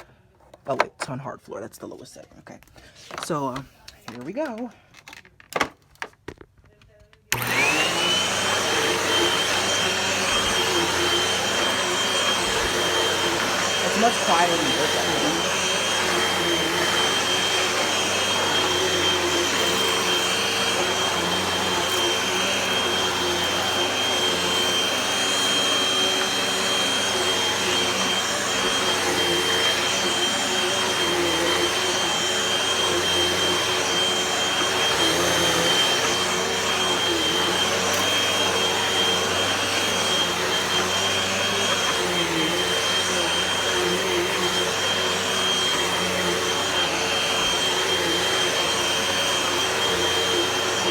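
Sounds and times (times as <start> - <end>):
vacuum cleaner running: 7.3 - 50.9.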